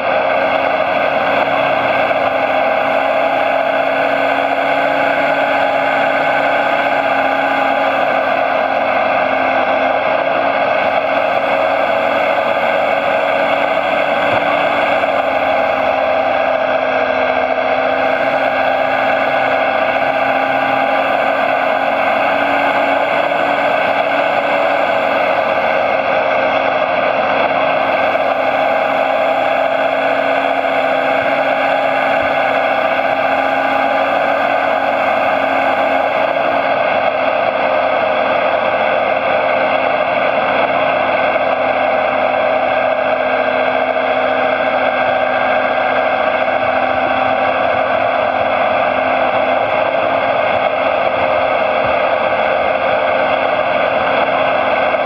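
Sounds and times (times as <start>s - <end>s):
model machine motor whining: 0.0s - 55.0s.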